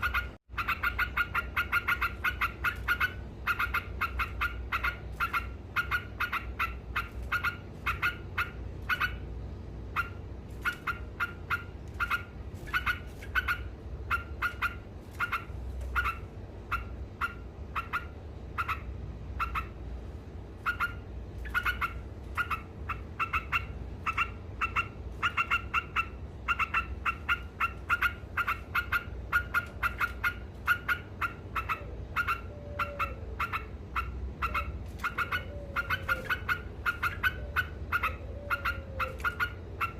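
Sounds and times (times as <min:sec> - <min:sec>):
bird chattering song: 0:00.0 - 0:19.8, 0:20.6 - 0:39.9
steady low hum: 0:00.0 - 0:39.9.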